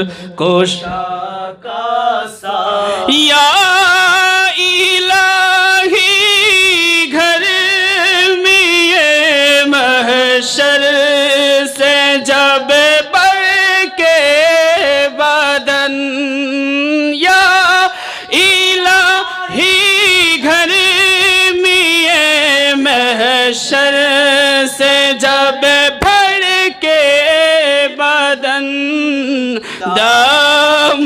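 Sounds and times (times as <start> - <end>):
man singing into a microphone: 0.0 - 31.0.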